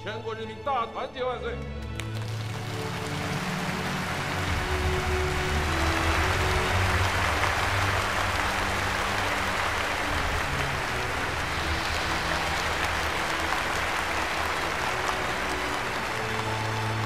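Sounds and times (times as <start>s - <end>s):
low sustained music tones: 0.0s - 17.0s
crowd applauding: 1.8s - 17.0s.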